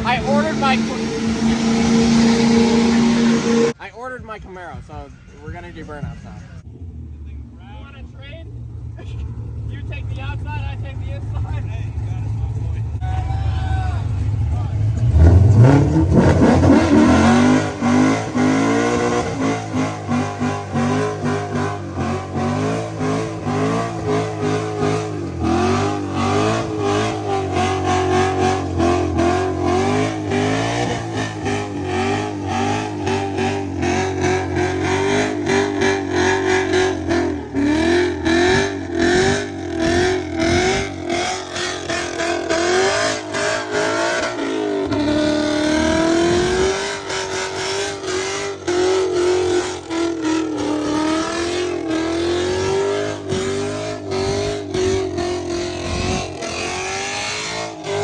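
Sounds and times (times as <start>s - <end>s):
car engine revving hard: 0.0s - 3.8s, 14.8s - 58.0s.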